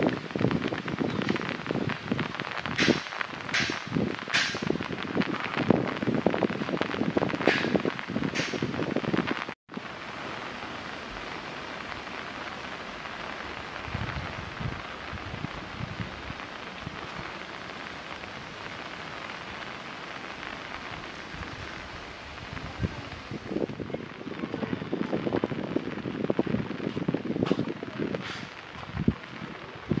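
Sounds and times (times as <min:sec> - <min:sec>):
rain falling on leaves: 0:00.0 - 0:30.0.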